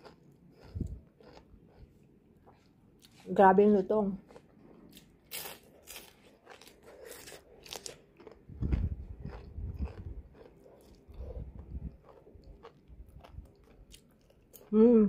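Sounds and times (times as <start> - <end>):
person chewing crispy fries: 0.0 - 3.3, 4.2 - 14.8.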